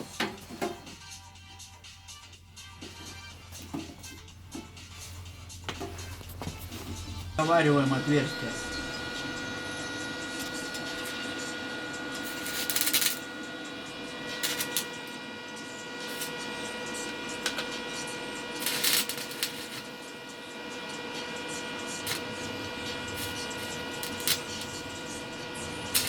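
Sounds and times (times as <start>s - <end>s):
electrical hum with high tones: 0.0s - 26.0s
arc welding crackling: 4.9s - 26.0s.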